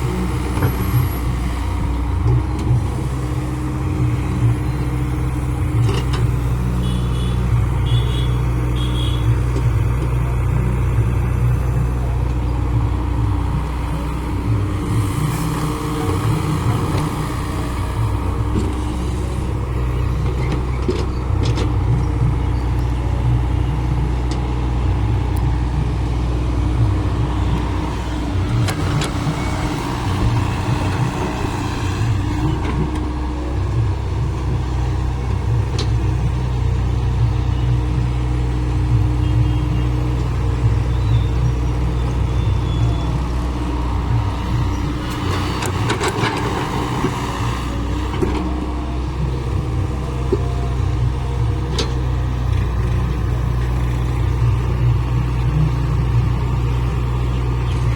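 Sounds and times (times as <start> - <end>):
heavy machine engine running: 0.0 - 57.9.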